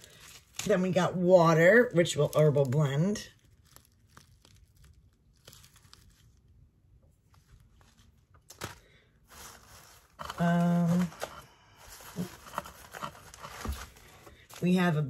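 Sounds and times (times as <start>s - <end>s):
herb packets rustling and clicking: 0.0s - 1.0s, 1.9s - 6.5s, 7.3s - 15.0s.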